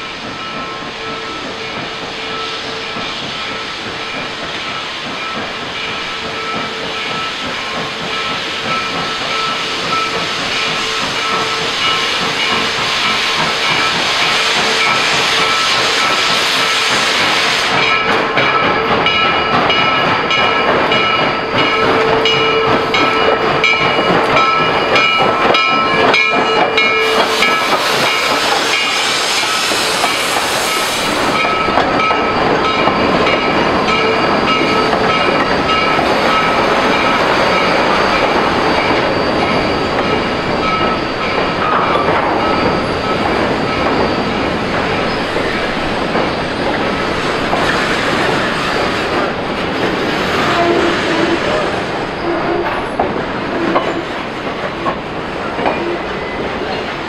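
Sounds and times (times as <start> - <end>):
train cars clicking and clattering: 0.0 - 57.0
steam hissing: 0.1 - 18.3, 21.3 - 57.0.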